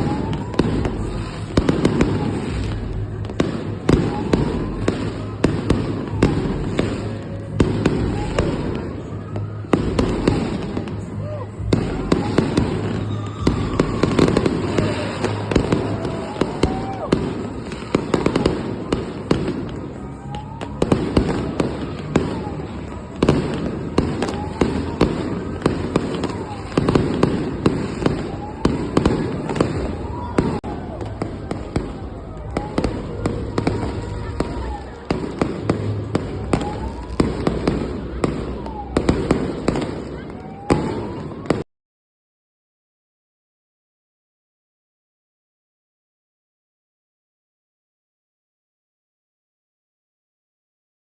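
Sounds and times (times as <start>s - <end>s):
fireworks bangs and cracks: 0.0s - 41.6s
fireworks whistles: 0.0s - 41.6s.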